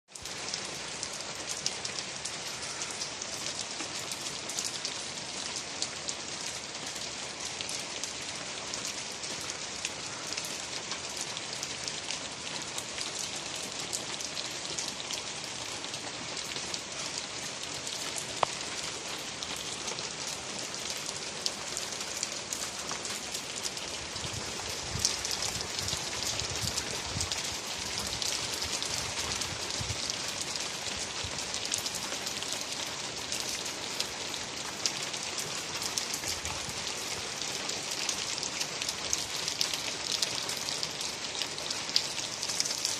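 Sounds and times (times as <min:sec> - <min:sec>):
steady rain falling: 0:00.1 - 0:42.9.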